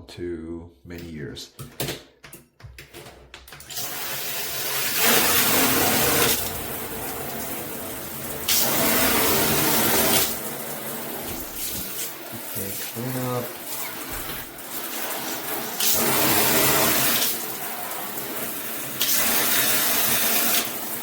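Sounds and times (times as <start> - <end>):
shower head spraying water: 3.7 - 21.0.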